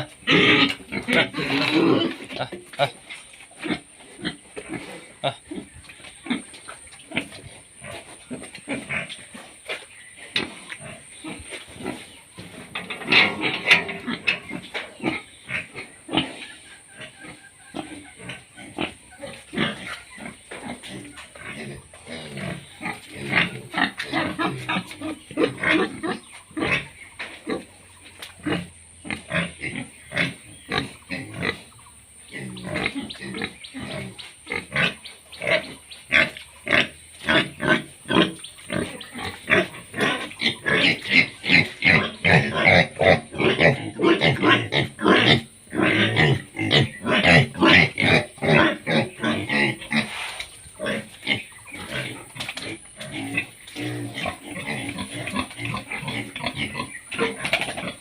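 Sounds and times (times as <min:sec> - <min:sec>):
pigs grunting: 0:00.0 - 0:58.0.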